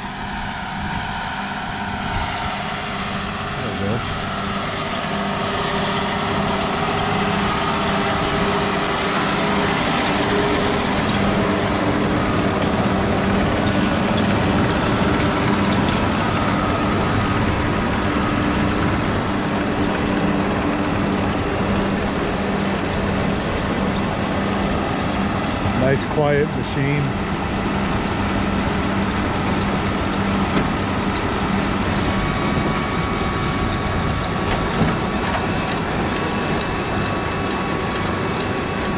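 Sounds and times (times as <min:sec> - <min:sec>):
baler machinery hum: 0:00.0 - 0:38.9
tractor diesel engine: 0:00.0 - 0:38.9.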